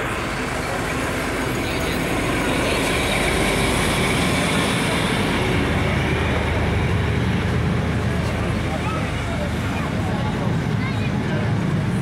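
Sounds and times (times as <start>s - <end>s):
locomotive engine drone: 0.0s - 12.0s
wheels rumbling on rails: 0.0s - 12.0s.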